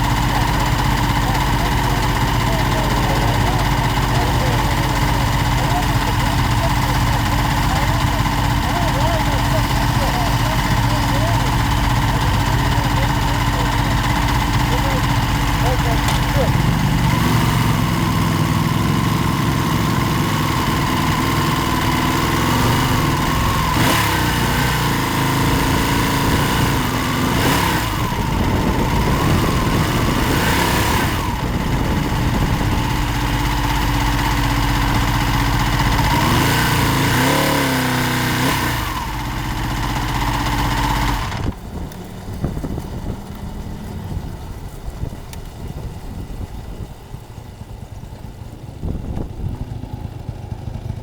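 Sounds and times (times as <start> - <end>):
racing motorcycle engine: 0.0 - 51.0
wind and road noise: 0.0 - 51.0.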